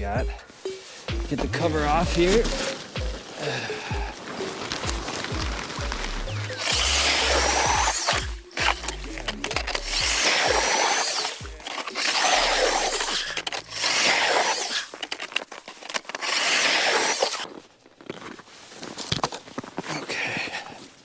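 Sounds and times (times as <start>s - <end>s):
plastic packaging crinkling and tearing: 2.0s - 19.6s.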